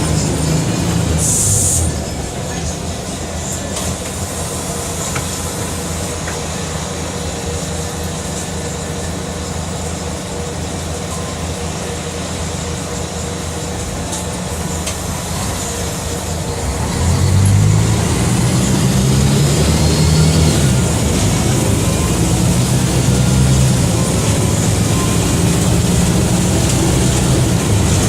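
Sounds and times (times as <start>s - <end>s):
bus diesel engine running: 0.0s - 28.0s.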